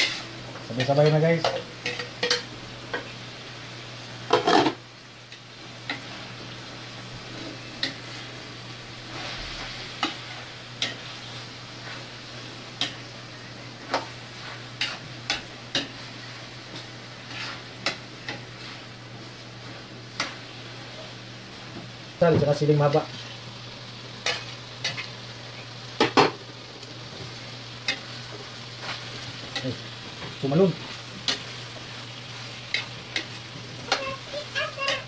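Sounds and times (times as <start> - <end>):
food sizzling: 0.0 - 35.0.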